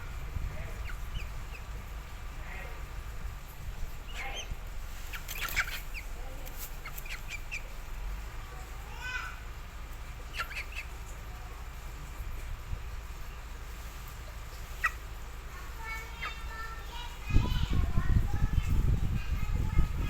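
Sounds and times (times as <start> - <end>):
birds squawking and clucking: 0.0 - 17.7
steady low rumble: 0.0 - 20.0.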